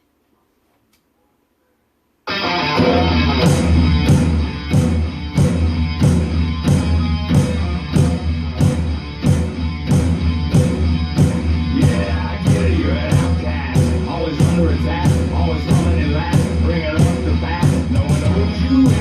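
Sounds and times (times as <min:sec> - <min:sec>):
instrumental hard rock music: 0:02.3 - 0:19.0.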